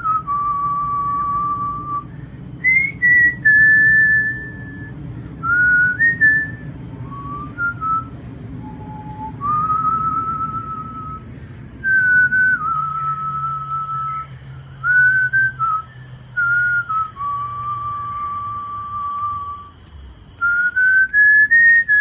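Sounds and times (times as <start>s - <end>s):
person whistling a slow tune: 0.0s - 22.0s.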